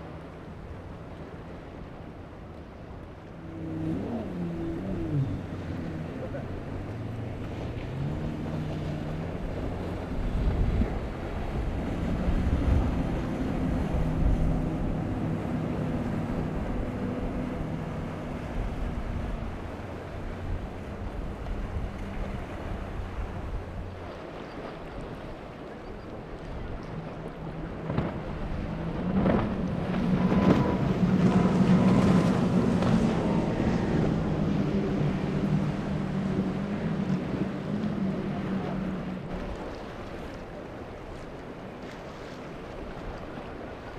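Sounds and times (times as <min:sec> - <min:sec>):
hull rushing through water: 0:00.0 - 0:43.9
outboard engines droning: 0:00.0 - 0:43.9
wind buffeting microphone: 0:03.0 - 0:43.9.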